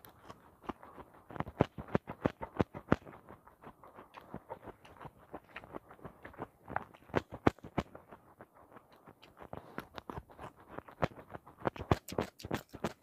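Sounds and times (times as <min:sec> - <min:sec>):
chewing crunchy raw vegetables: 0:00.0 - 0:13.0.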